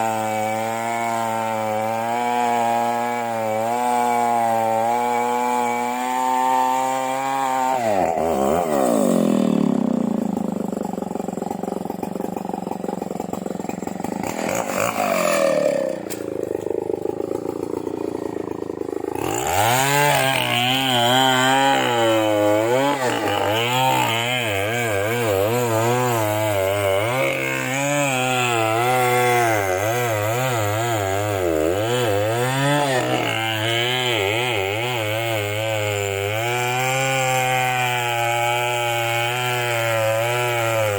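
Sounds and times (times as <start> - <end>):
chainsaw cutting into wood: 0.0 - 40.9.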